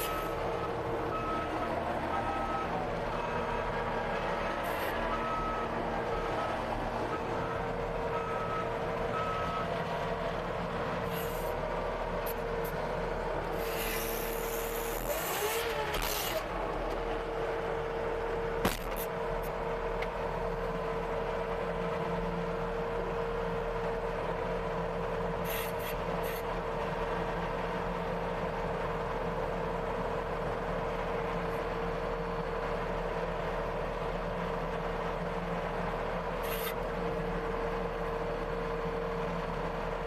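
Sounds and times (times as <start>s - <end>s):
diesel engine whining: 0.0s - 40.0s.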